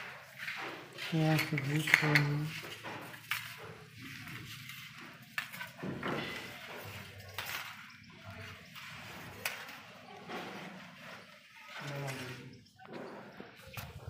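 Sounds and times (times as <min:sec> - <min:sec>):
wire clinking and scraping: 0:00.3 - 0:14.0.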